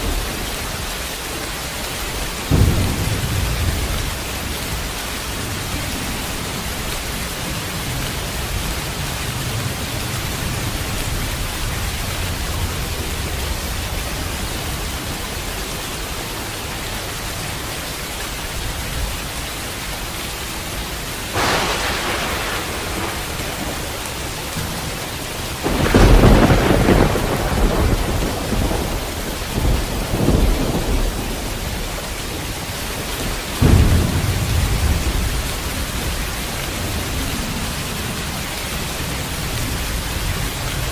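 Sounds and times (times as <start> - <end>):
thunderclaps: 0.0 - 16.1, 21.3 - 40.9
heavy rain: 0.0 - 40.9
low rolling thunder: 2.2 - 16.2, 21.3 - 40.9.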